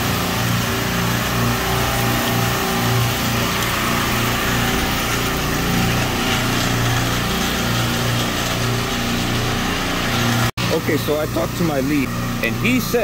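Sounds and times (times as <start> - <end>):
low pulsing drone: 0.0 - 13.0
refrigeration compressors humming: 0.0 - 13.0.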